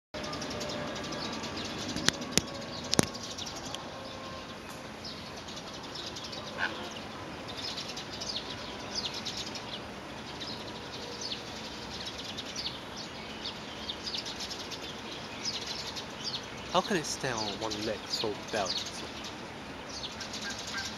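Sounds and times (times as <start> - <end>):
birds chirping: 0.2 - 20.9
outdoor background hum: 0.2 - 20.9.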